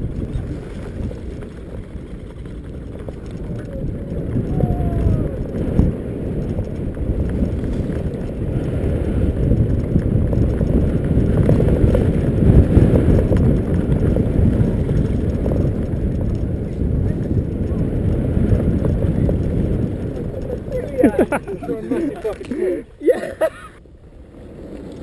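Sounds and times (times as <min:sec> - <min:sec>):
board rolling on grass: 0:00.0 - 0:22.9
wind buffeting microphone: 0:00.0 - 0:25.0.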